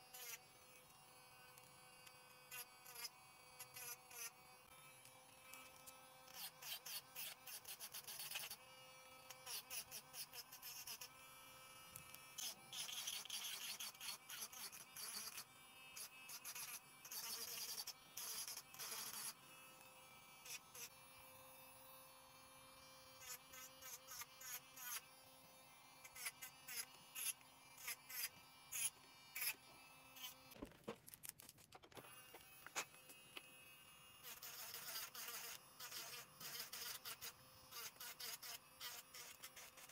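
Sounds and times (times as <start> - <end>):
electric nail drill buzzing: 0.0 - 30.6, 32.0 - 39.9
drill bit grinding nails: 0.0 - 39.9.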